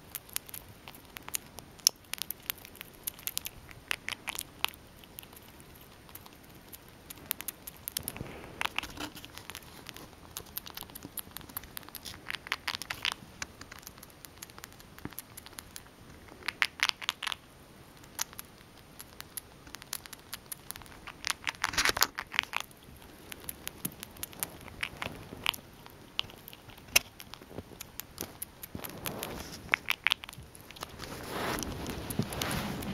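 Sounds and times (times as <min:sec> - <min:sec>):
squirrel gnawing and crunching: 0:00.0 - 0:32.9.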